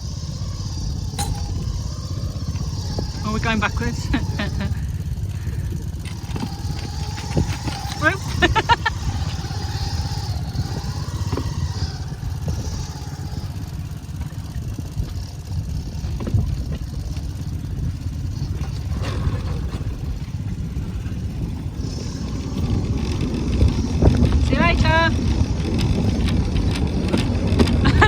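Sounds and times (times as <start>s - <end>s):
small engine droning: 0.0s - 28.0s.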